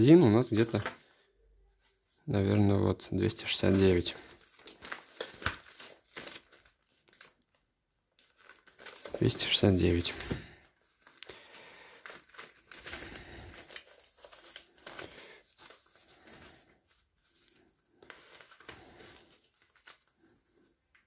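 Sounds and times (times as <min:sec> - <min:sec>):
paper rustling and crinkling: 0:00.4 - 0:01.1, 0:03.4 - 0:07.6, 0:08.2 - 0:21.0.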